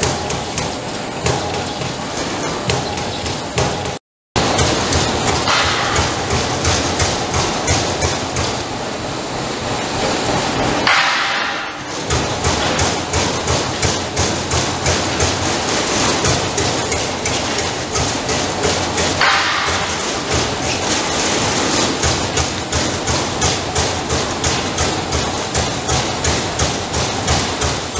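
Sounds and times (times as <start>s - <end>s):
punch press punching sheet metal: 0.0s - 9.2s, 10.7s - 27.9s.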